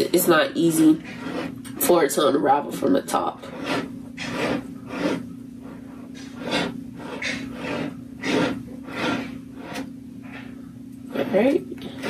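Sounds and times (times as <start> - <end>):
twine rubbing against glass: 0.0 - 12.0.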